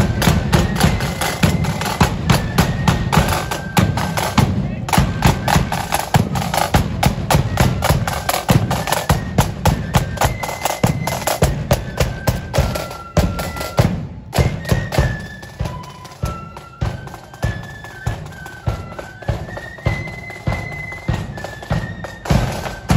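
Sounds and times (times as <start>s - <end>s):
bass drum beating march time: 0.0s - 22.9s
flute melody: 0.0s - 22.9s
side drums: 0.0s - 22.9s.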